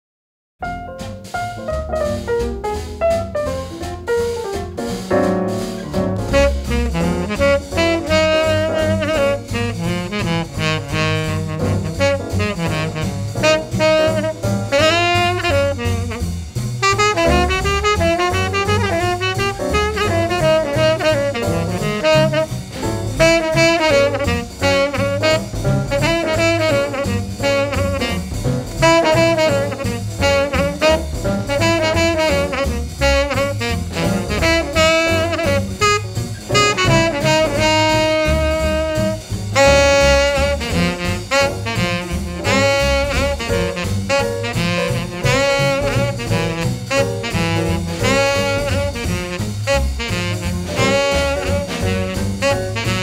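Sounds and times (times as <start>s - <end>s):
upbeat jazz with saxophone and brass: 0.6s - 53.0s.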